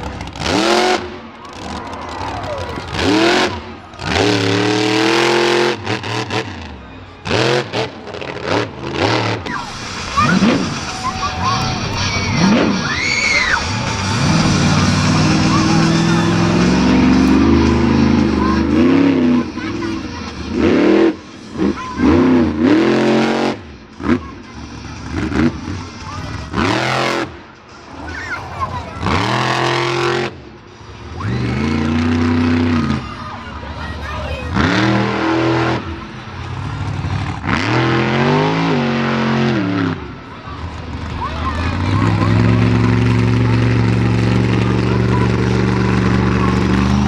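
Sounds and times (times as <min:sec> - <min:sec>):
monster truck engine revving: 0:00.0 - 0:47.0.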